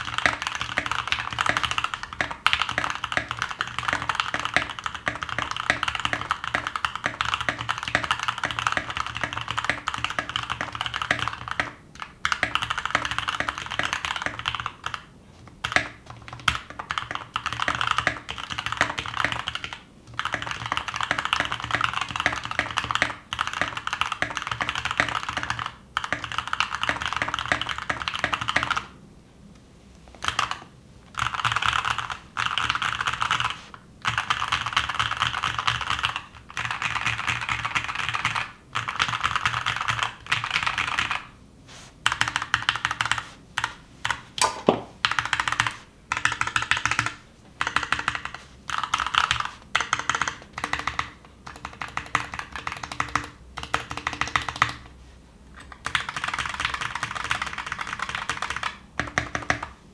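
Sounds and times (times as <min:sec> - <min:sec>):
keyboard typing: 0:00.0 - 0:28.9, 0:30.2 - 0:41.3, 0:42.0 - 0:54.9, 0:55.6 - 0:59.8.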